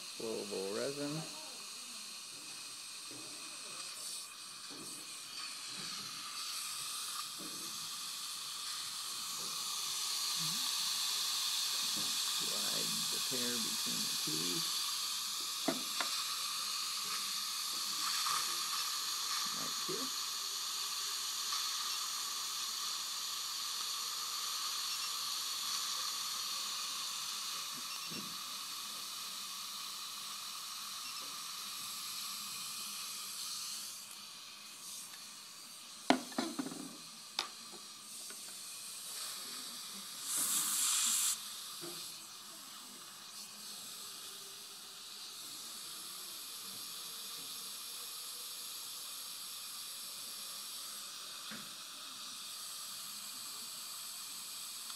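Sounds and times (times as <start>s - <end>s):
dental suction hissing: 0.0s - 54.9s.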